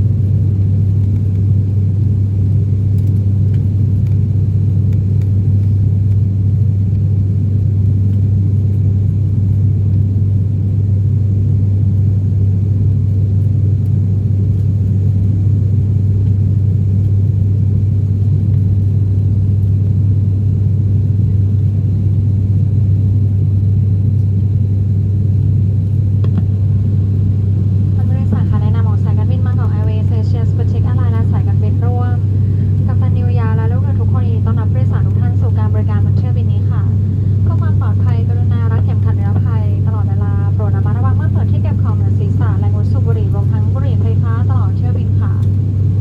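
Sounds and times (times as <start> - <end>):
turboprop drone in cabin: 0.0 - 46.0.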